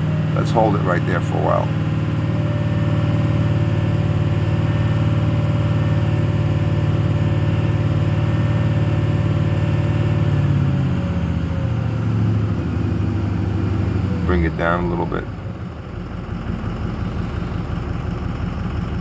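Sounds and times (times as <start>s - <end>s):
diesel truck engine at raised revs: 0.0s - 19.0s.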